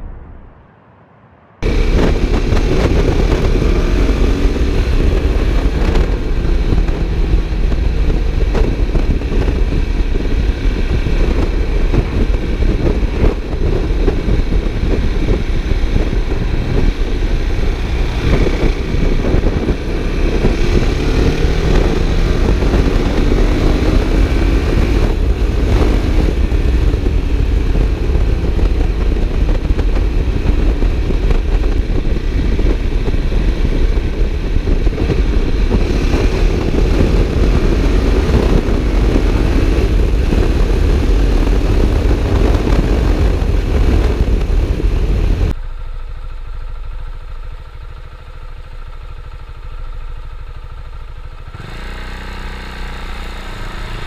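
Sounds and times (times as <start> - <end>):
wind noise: 0.0 - 45.6, 46.5 - 54.0
motorcycle engine revving: 1.6 - 54.0.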